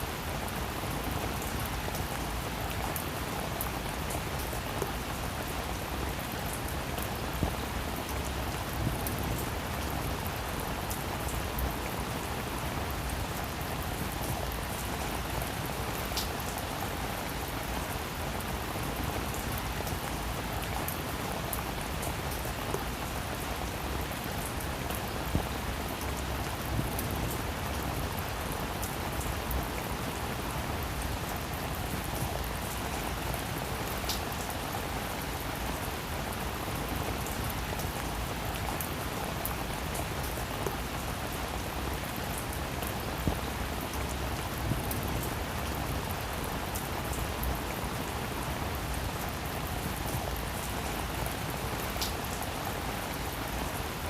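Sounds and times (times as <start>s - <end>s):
rain pattering on a roof: 0.0s - 54.0s.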